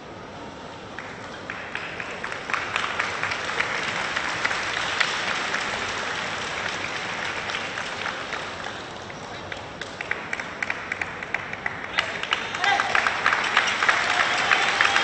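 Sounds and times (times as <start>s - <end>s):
crowd applauding: 1.0s - 15.0s.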